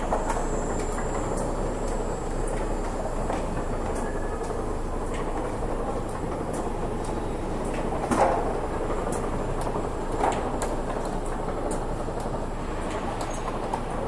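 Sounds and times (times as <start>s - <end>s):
conveyor clicks and clacks: 0.0s - 14.0s.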